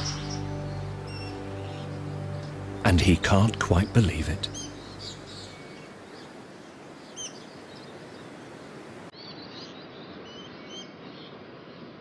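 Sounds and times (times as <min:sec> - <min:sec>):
bird calls: 0:00.0 - 0:03.0, 0:04.4 - 0:11.9
steady background hiss: 0:00.0 - 0:12.0.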